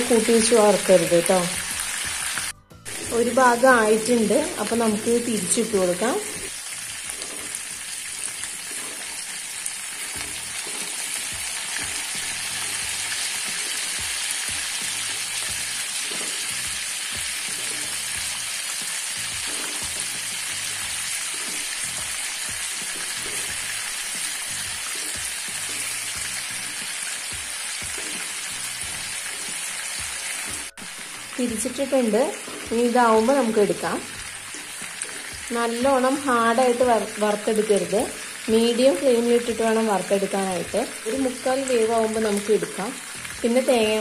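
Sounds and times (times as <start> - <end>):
chicken sizzling in oil: 0.0 - 44.0.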